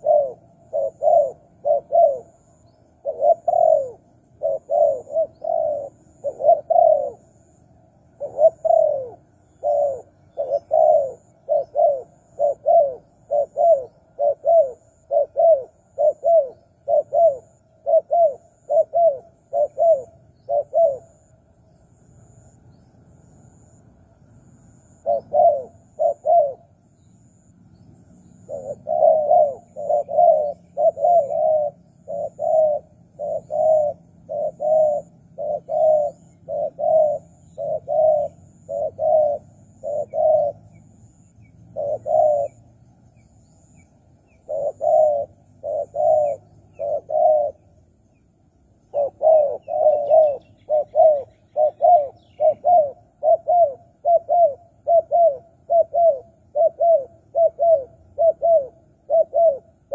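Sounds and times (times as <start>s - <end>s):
dove cooing: 0.0s - 22.6s, 24.8s - 59.9s.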